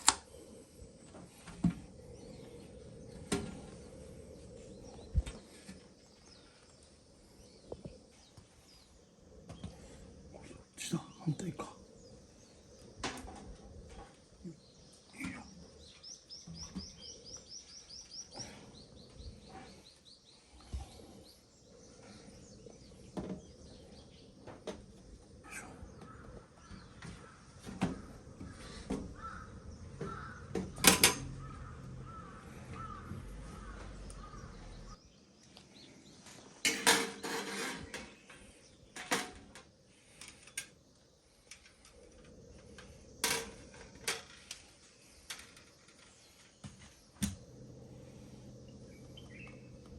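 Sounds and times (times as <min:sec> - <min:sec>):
birds calling: 0:00.0 - 0:49.9.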